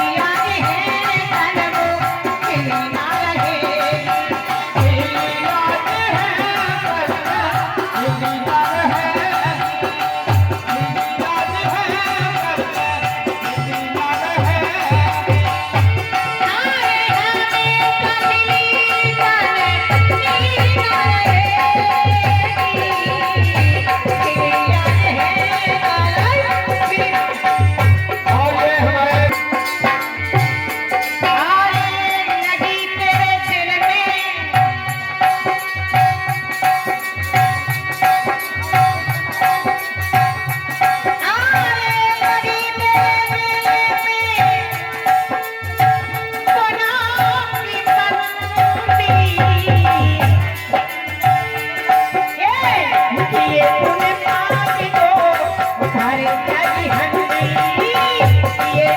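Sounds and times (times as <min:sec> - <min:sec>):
hand drum beating: 0:00.0 - 0:58.9.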